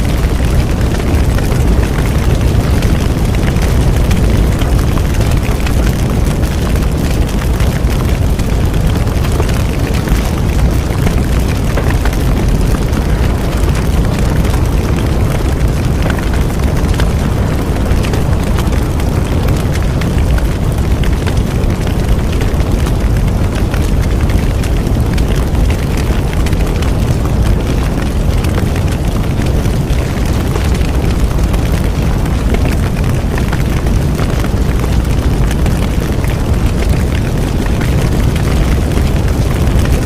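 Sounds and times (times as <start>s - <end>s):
bonfire flames roaring: 0.0s - 40.0s
burning wood crackling: 0.0s - 40.0s.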